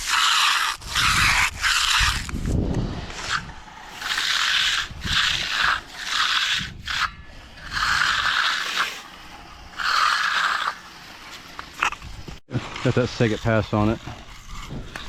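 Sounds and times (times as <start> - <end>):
hand tool scraping fresh concrete: 0.0 - 15.0.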